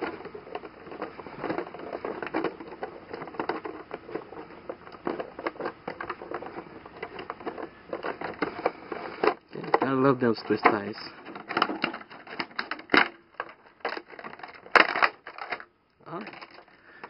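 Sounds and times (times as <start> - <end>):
plastic tray crinkling: 0.0 - 17.0.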